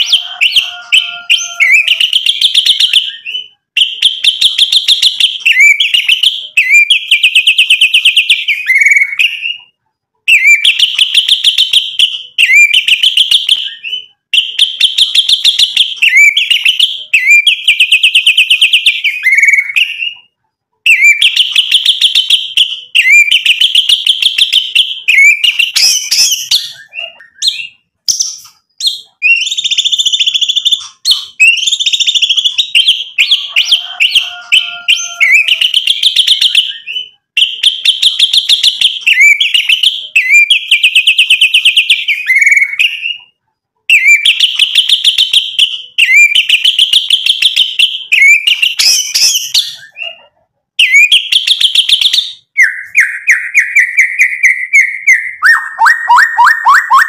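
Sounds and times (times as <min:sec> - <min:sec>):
bird singing trills and whistles: 0:00.0 - 0:09.7, 0:10.3 - 0:20.3, 0:20.9 - 0:43.3, 0:43.9 - 0:57.0.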